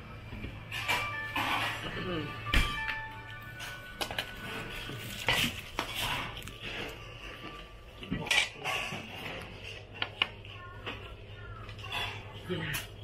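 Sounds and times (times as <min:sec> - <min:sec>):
steel bowls and utensils clattering: 0:00.6 - 0:10.2, 0:11.8 - 0:13.0.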